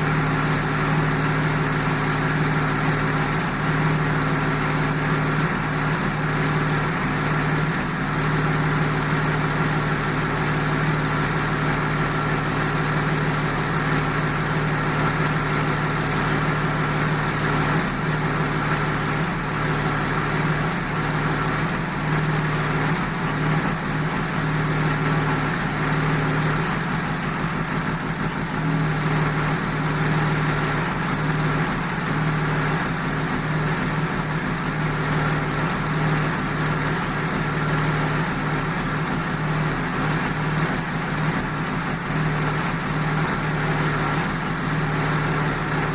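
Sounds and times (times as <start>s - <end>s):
car engine idling with misfire: 0.0s - 45.9s.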